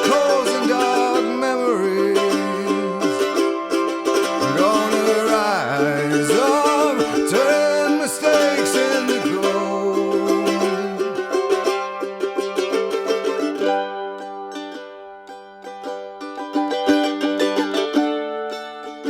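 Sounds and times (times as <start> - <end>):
sung melody: 0.0 - 17.3
plucked acoustic strings: 0.0 - 19.0.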